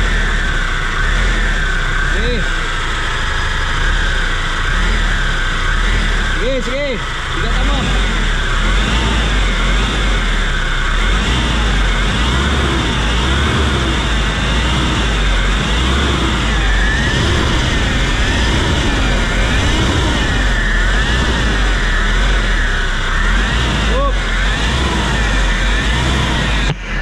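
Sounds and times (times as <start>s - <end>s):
engine revving: 0.0s - 27.0s
whining grinding noise: 0.0s - 27.0s.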